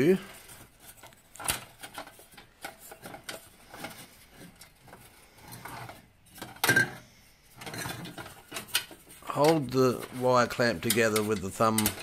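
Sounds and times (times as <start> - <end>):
small metal clicks and rattles: 0.8 - 12.0.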